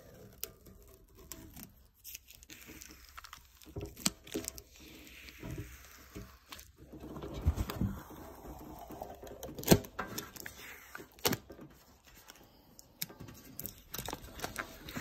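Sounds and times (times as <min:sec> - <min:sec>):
plastic film crinkling and snapping: 0:00.0 - 0:15.0.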